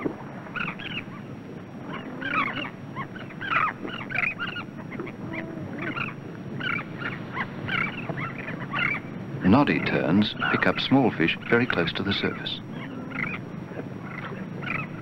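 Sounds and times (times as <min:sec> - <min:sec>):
terns calling: 0:00.0 - 0:15.0.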